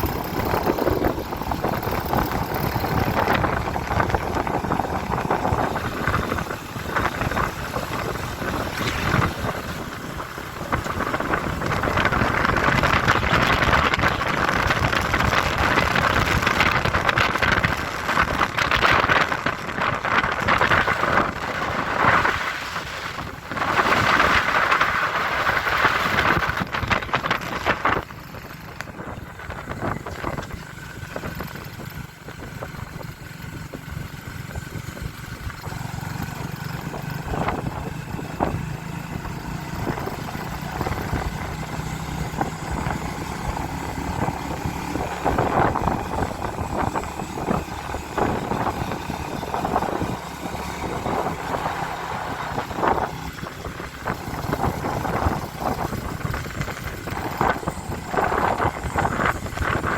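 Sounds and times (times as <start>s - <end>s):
rushing noise: 0.0s - 30.8s, 39.1s - 59.9s
motorcycle engine running: 0.0s - 59.9s.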